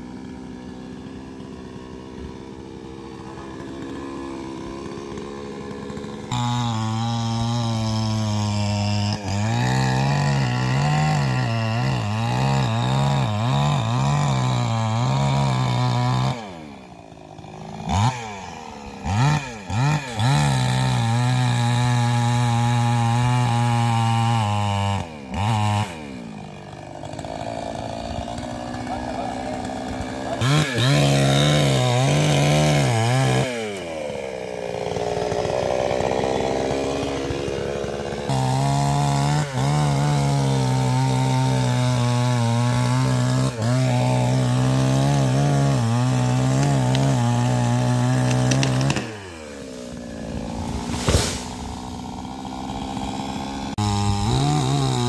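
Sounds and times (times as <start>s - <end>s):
chainsaw cutting into tree: 0.0s - 55.0s.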